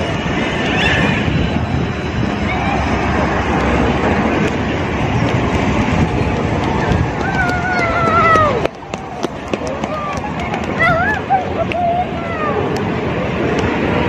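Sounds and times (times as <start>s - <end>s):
loud rumbling rush of noise: 0.0s - 14.0s.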